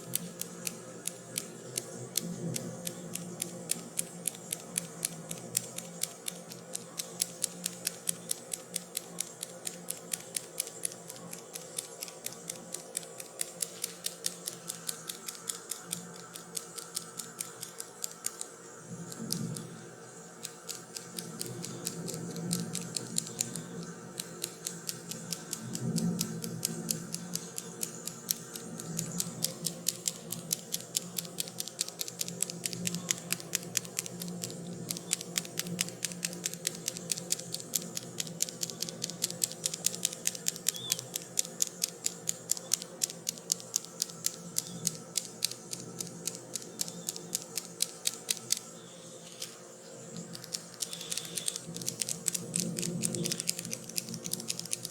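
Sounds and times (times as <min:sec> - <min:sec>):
rapid crisp tapping: 0:00.0 - 0:54.9.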